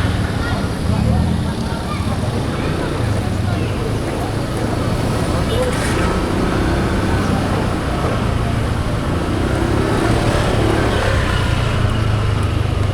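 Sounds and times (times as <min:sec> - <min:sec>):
motorbike engine running: 0:00.0 - 0:12.9
road and wind noise: 0:00.0 - 0:12.9.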